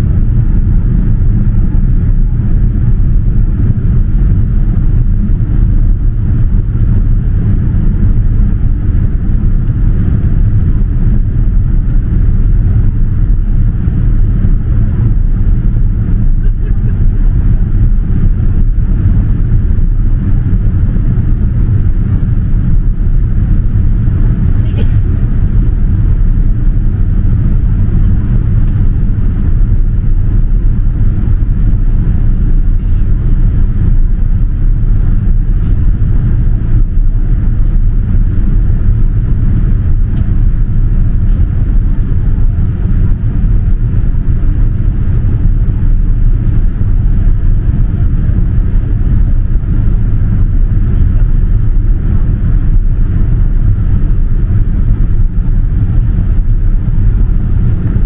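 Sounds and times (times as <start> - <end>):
jet engines roaring: 0.0 - 58.0
rushing air: 0.0 - 58.0.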